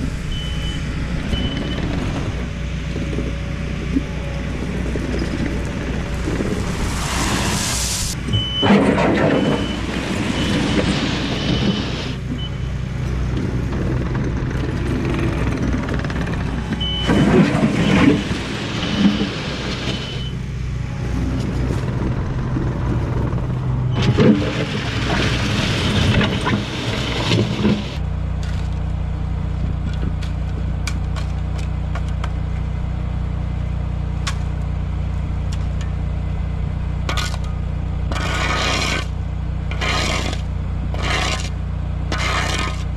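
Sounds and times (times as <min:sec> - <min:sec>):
diesel excavator engine under load: 0:00.0 - 0:42.9
scraping and rock noise: 0:01.3 - 0:20.4, 0:21.0 - 0:32.7, 0:37.0 - 0:42.9.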